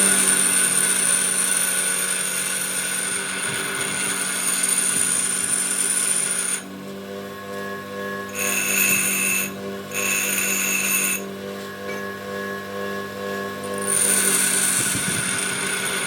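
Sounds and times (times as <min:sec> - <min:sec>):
motor hum: 0:00.0 - 0:16.0
power tool cutting metal: 0:00.0 - 0:16.0.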